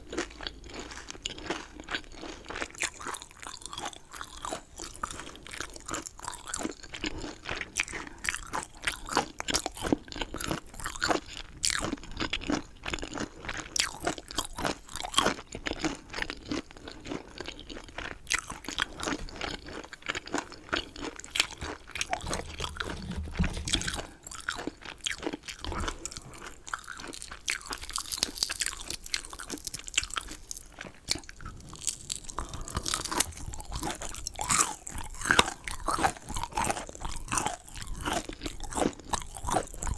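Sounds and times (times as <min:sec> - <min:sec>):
chewing crunchy chicken: 0:00.0 - 0:39.9.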